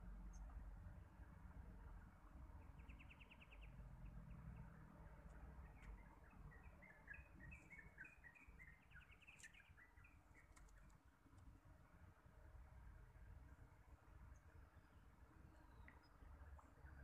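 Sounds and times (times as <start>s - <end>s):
faint bird song: 0.0s - 17.0s.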